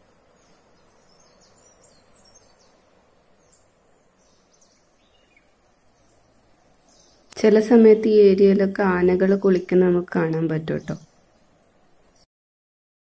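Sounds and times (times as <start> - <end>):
small birds chirping: 0.2 - 12.3.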